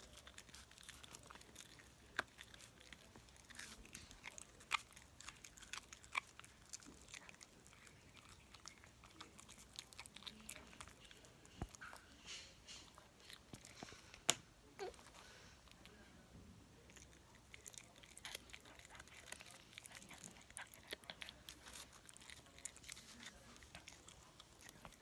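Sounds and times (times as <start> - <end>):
dog crunching a treat: 0.0 - 16.0, 16.8 - 25.0.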